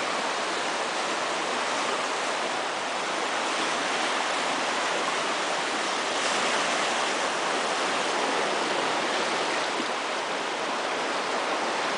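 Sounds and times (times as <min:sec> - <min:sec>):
flooded creek roaring: 0:00.0 - 0:11.9.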